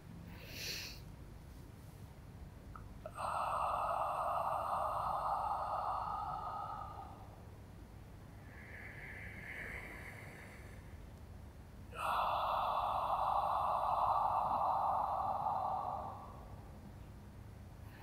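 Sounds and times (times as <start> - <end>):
woman breathing deeply: 0.3 - 1.1, 3.0 - 18.0.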